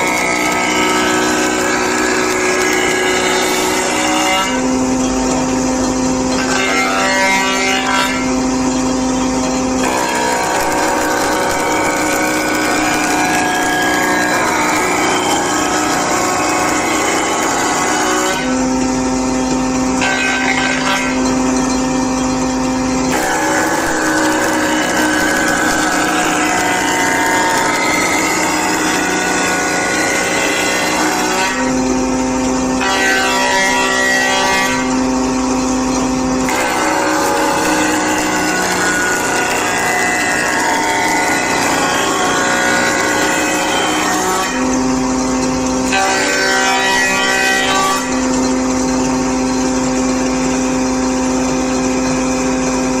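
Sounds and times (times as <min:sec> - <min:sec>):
woodworking power tool running: 0:00.0 - 0:53.0.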